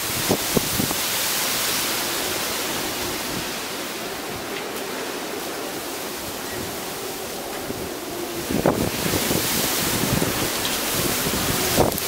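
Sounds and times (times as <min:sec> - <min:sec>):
strong wind through tree leaves: 0:00.0 - 0:12.0.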